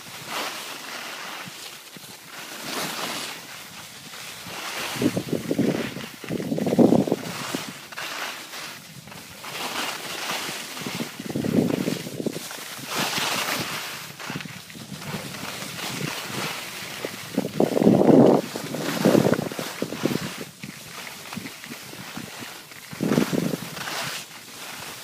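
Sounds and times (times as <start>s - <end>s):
skis carving across snow: 0.0s - 25.0s
wind rumbling on microphone: 2.9s - 8.0s, 8.6s - 25.0s.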